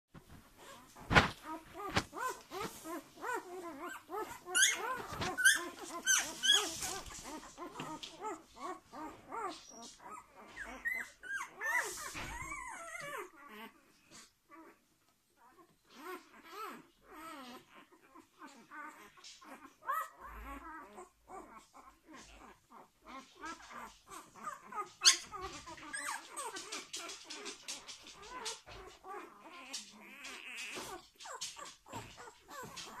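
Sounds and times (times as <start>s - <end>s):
puppies whimpering and squeaking: 0.3s - 33.0s.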